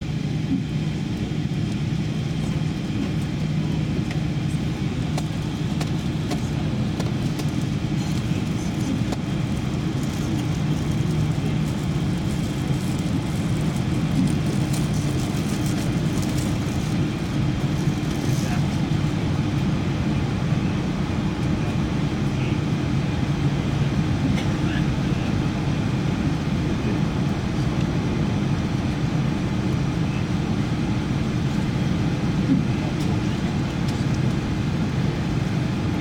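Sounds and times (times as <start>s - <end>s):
aircraft cabin engine drone: 0.0s - 36.0s.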